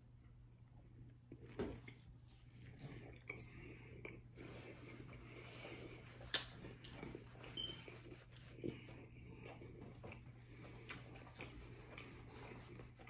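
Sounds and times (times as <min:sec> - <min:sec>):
low steady hum: 0:00.0 - 0:13.0
person chewing with lips closed: 0:00.2 - 0:13.0.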